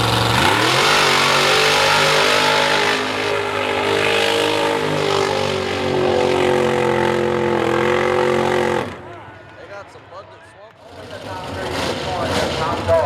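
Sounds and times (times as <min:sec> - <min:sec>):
truck engine revving: 0:00.0 - 0:09.3, 0:10.8 - 0:13.0.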